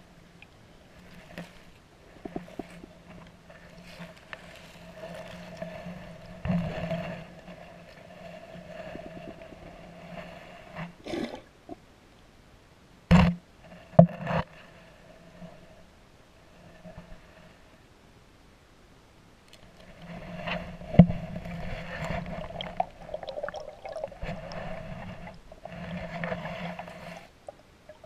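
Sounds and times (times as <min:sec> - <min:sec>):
faint underwater hum: 0:00.0 - 0:28.0.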